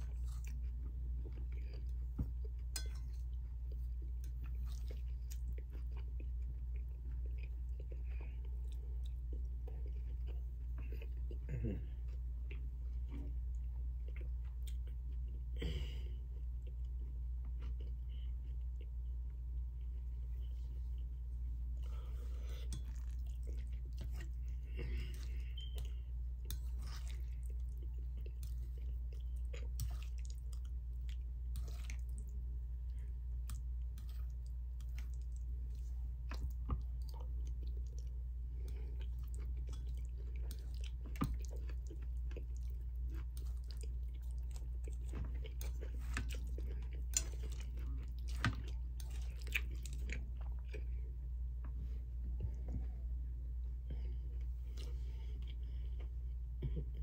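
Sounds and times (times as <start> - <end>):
person chewing food: 0.0 - 53.2, 53.8 - 57.0
steady low hum: 0.0 - 57.0.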